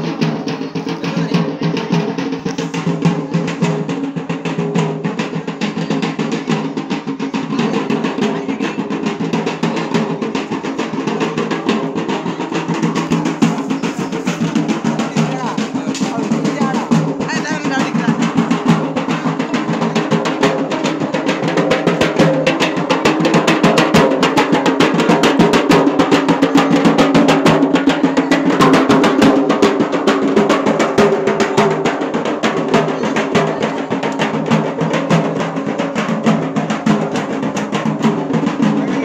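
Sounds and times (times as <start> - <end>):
procession drums playing fast: 0.0 - 39.0.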